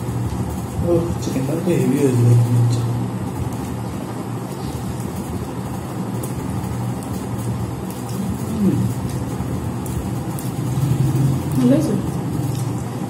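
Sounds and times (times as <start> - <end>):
rumbling haze: 0.0 - 13.0
steady low hum: 0.0 - 13.0.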